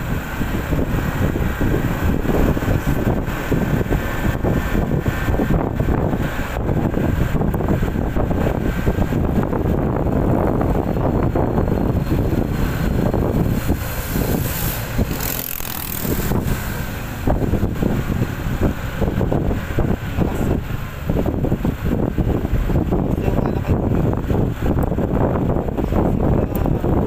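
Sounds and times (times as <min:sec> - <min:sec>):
motorcycle engine: 0:00.0 - 0:27.0
road noise: 0:00.0 - 0:27.0
wind rumbling on microphone: 0:00.0 - 0:27.0.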